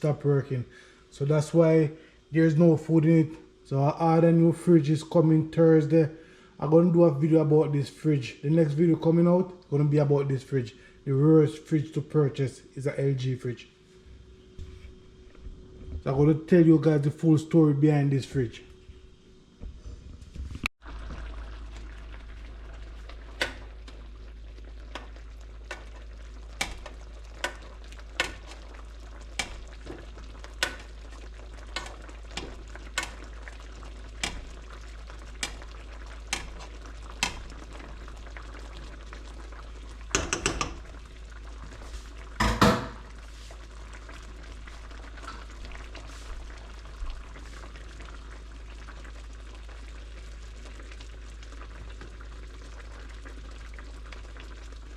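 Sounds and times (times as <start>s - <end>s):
pot cooking with hiss and pops: 0.0s - 54.9s.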